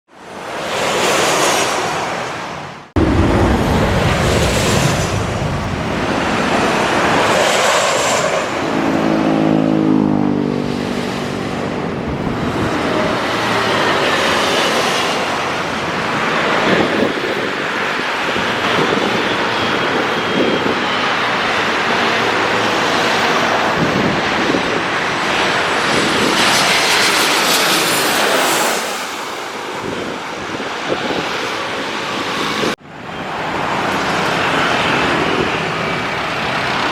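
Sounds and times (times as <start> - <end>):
airliner flying overhead: 0.1 - 36.9
road traffic: 0.2 - 25.8, 29.5 - 36.9.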